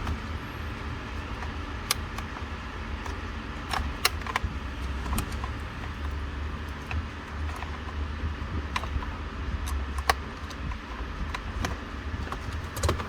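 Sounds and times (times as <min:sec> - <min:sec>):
steady low hum: 0:00.0 - 0:13.0
wiring connectors clicking and rattling: 0:00.0 - 0:13.0.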